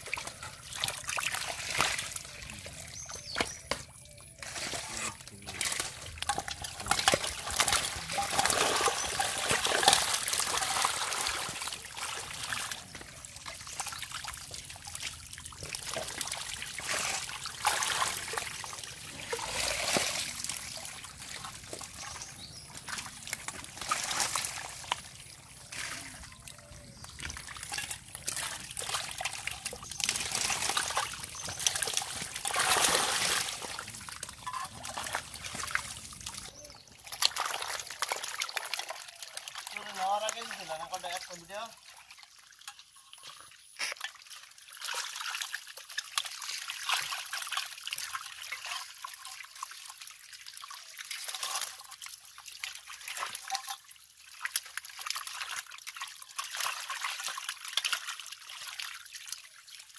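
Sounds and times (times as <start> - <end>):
mud and water splashing: 0.0 - 59.9.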